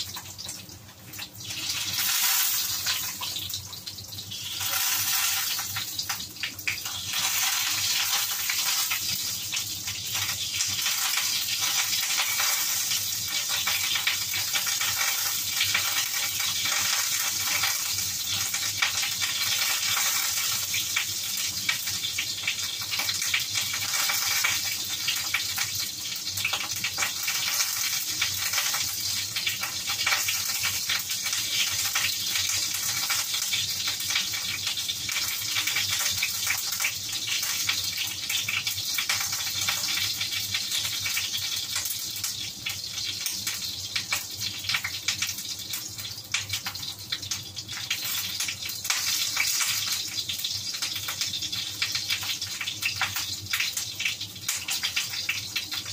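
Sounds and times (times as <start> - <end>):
meat sizzling in a pan: 0.0 - 55.9.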